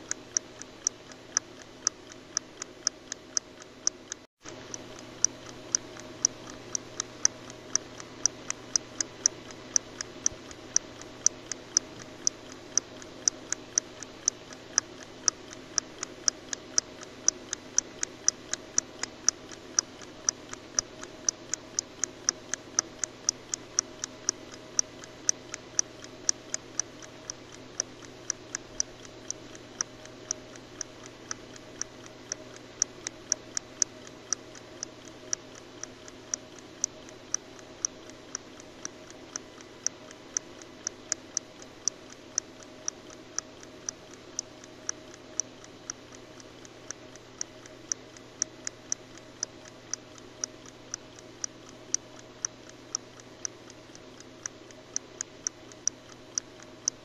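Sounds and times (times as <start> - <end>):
clock ticking: 0.0 - 57.0
faint steady hum: 0.0 - 57.0.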